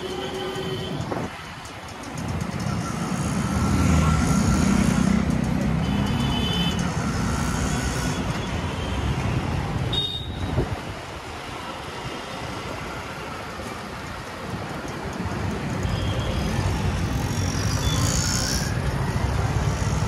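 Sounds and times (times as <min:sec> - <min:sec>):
vehicle engines running: 0:00.0 - 0:09.9, 0:10.7 - 0:20.0.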